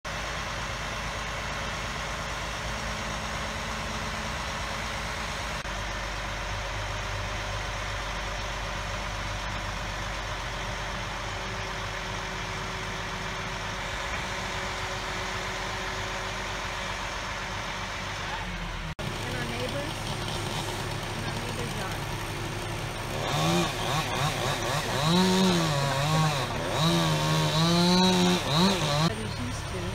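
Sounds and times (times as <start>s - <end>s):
crane engine running: 0.1s - 29.9s.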